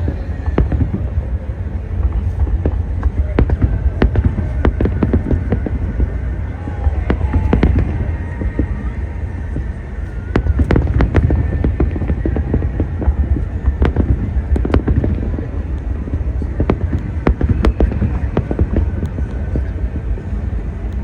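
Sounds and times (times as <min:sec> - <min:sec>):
deep rumble: 0:00.0 - 0:21.0
fireworks bangs and crackles: 0:00.0 - 0:21.0.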